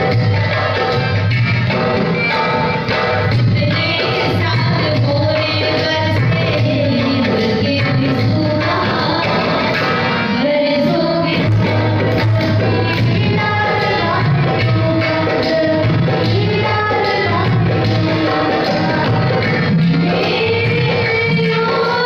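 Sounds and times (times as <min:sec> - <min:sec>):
singing over a steady beat: 0:02.3 - 0:22.0.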